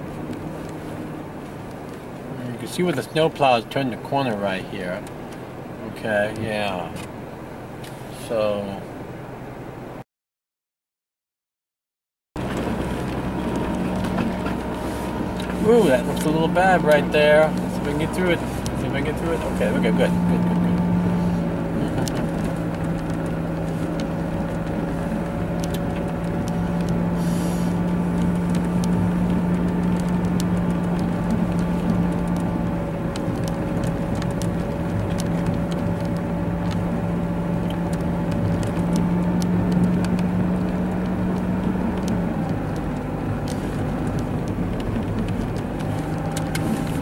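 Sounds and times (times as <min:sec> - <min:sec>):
car engine and tyre drone: 0:00.0 - 0:10.0, 0:12.4 - 0:47.0.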